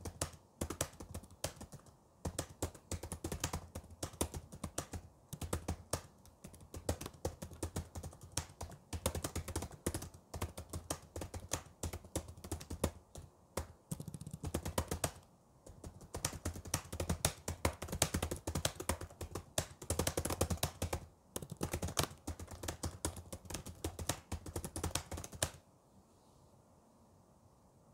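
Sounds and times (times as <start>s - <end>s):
fast keyboard typing: 0.0s - 25.6s.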